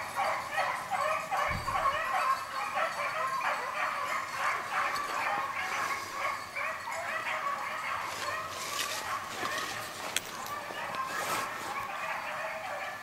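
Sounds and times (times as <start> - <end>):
hounds baying: 0.0 - 13.0.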